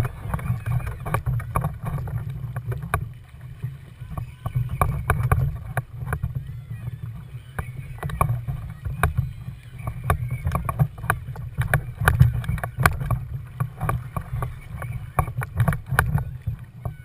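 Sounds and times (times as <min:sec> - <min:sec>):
small clicks and splashes: 0:00.0 - 0:17.0
steady low rumble: 0:00.0 - 0:17.0
water slapping against kayak hull: 0:00.0 - 0:17.0.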